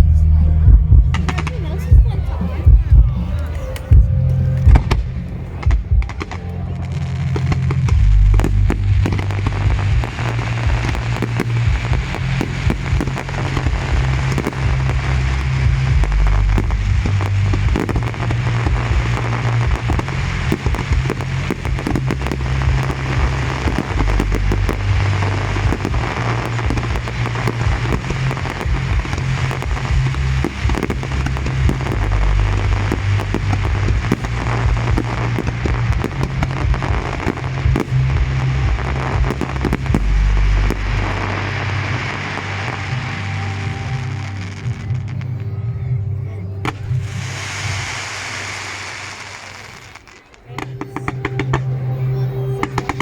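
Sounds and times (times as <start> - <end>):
music with heavy bass: 0.0 - 49.2, 50.5 - 53.0
fireworks bursting and crackling: 0.7 - 45.6, 46.6 - 53.0.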